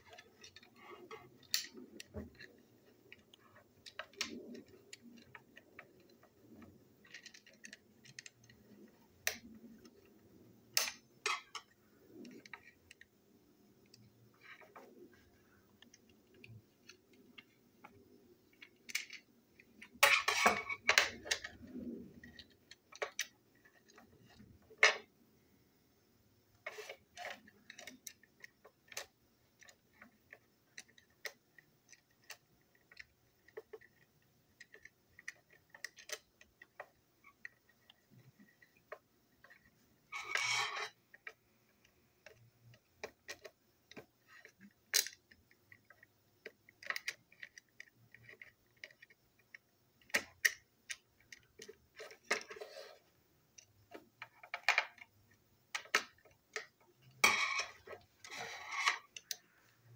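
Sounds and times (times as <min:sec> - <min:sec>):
plastic parts clicking: 0:00.0 - 0:13.1, 0:13.8 - 0:25.1, 0:26.6 - 0:59.9.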